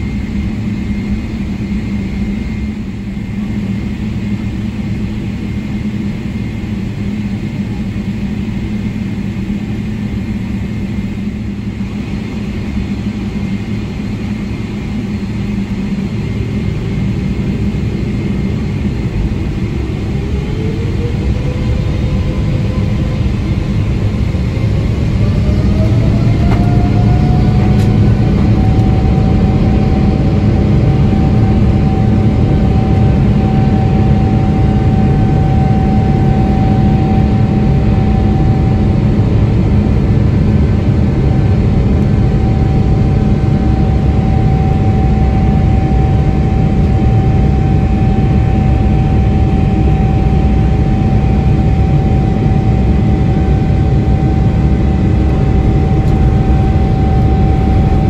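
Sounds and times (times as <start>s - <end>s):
engine whine: 0.0s - 58.0s
loud roar of jet engines: 0.0s - 58.0s.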